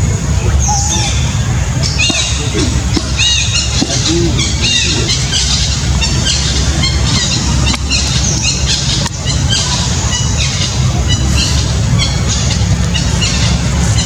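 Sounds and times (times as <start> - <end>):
steady low rumble: 0.0 - 14.0
animals chirping squeaks: 0.6 - 14.0.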